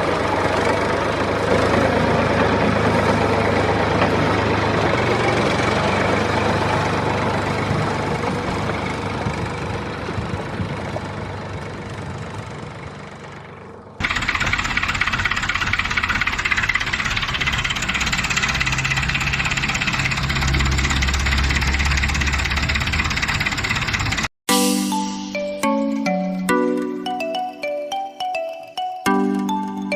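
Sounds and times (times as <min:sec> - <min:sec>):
loud rattling motor: 0:00.0 - 0:24.3
motor running with rattle: 0:00.0 - 0:24.3.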